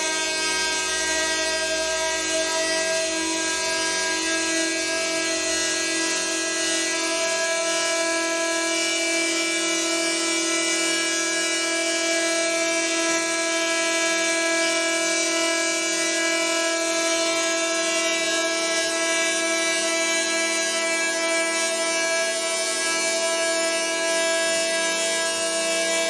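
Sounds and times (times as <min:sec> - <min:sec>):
hurdy-gurdy drone: 0:00.0 - 0:26.0.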